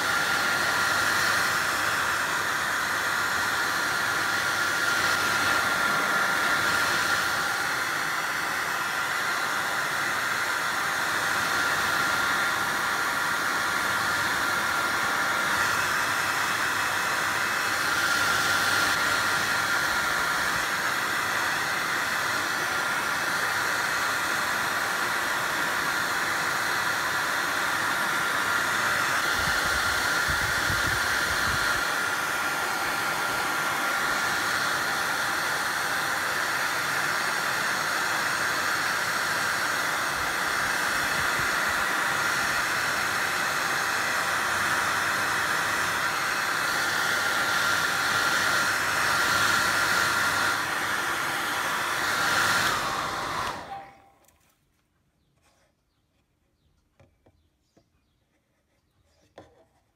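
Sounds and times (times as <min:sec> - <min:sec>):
hot-air blower running: 0:00.0 - 0:54.3.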